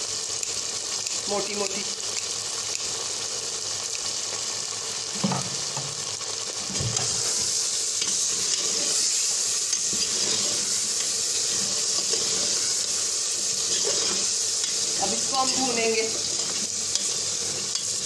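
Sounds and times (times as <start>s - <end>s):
meat sizzling in oil: 0.0s - 18.0s.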